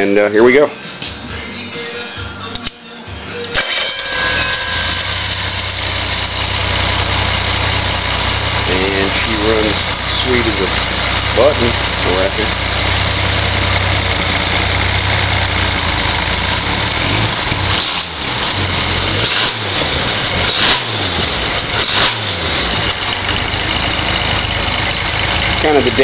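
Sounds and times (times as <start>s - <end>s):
engine running smoothly: 3.6s - 26.0s.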